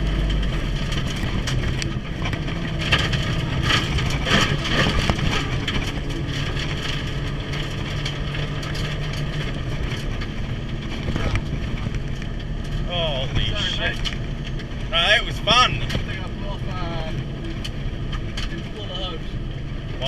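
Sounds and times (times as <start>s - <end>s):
sharp knocks and rattles: 0.0s - 19.1s
car engine running hard: 0.0s - 20.0s.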